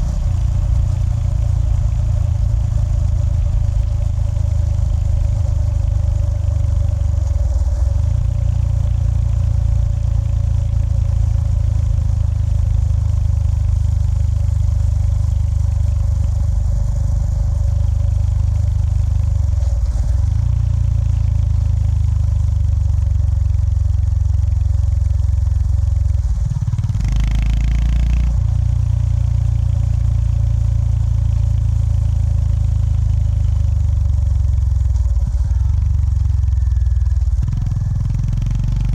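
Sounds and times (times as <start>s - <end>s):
motorcycle engine drone: 0.0s - 38.9s.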